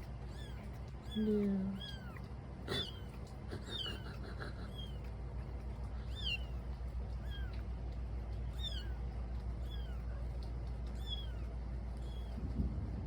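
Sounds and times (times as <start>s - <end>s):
kittens mewing: 0.3s - 12.4s.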